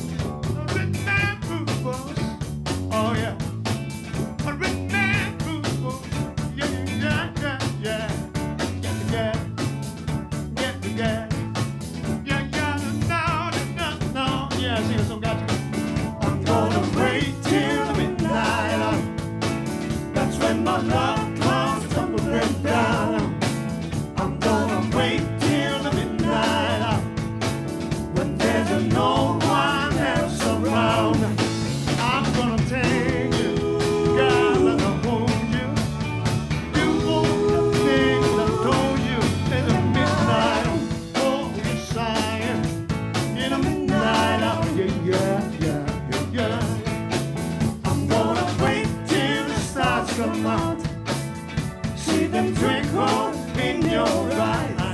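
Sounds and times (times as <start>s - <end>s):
live band playing: 0.0s - 54.9s.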